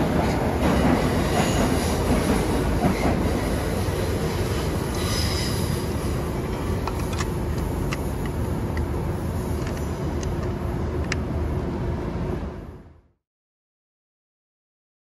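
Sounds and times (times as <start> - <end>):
electric train rumbling: 0.0 - 13.1.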